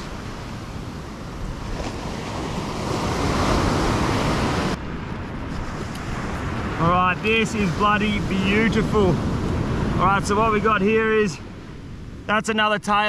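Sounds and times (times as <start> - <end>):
wind on microphone: 0.0 - 12.3
waves breaking: 0.0 - 13.0.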